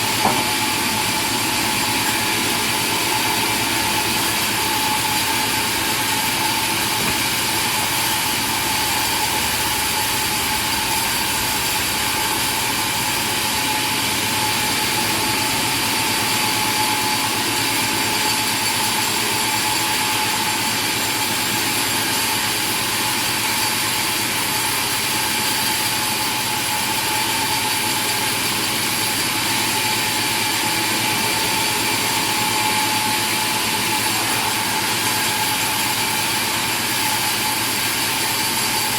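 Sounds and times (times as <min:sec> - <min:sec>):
machine whining and humming: 0:00.0 - 0:38.9.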